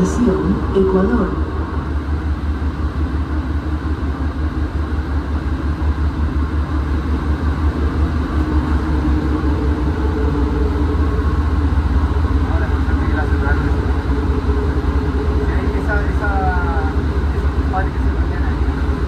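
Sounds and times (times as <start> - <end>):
faint steady hum: 0.0 - 19.0
metro train rumble: 0.0 - 19.0.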